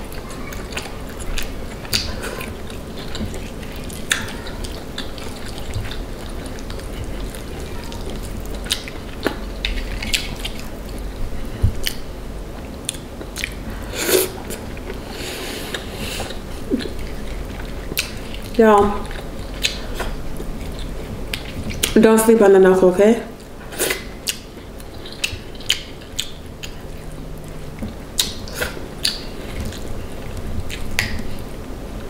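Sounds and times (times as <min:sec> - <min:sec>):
person chewing: 0:00.0 - 0:22.0, 0:23.4 - 0:31.7.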